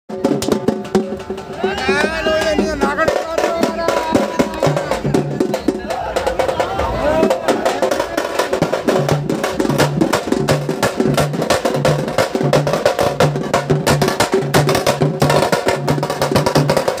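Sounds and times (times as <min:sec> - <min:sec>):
fast percussive dance music: 0:00.1 - 0:17.0.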